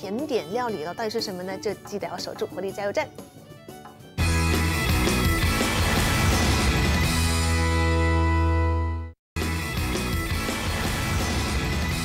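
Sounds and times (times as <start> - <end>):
upbeat theme music: 0.0 - 12.0.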